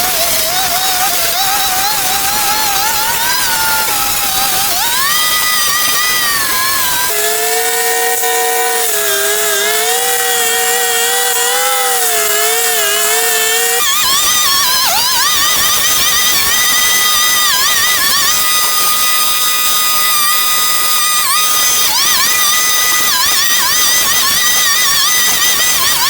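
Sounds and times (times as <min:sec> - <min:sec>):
small petrol engine running hard: 0:00.0 - 0:26.0.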